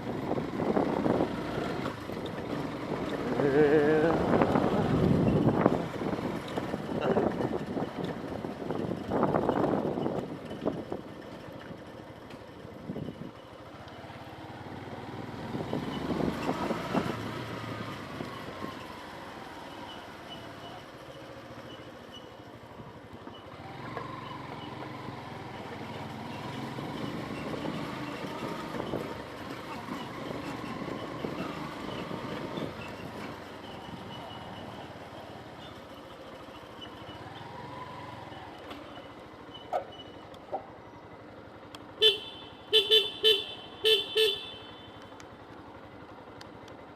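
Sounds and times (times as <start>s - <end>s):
motor vehicles passing: 0.0s - 46.9s.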